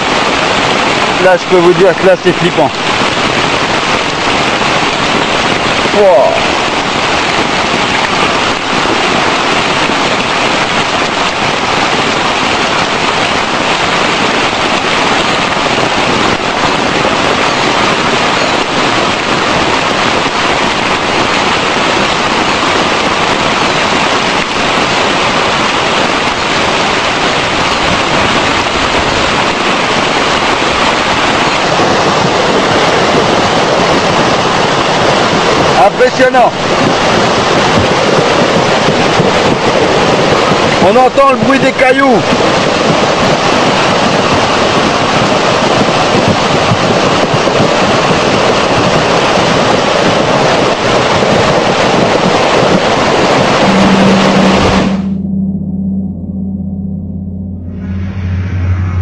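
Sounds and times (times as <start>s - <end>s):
floodwater rushing down creek: 0.0s - 55.3s.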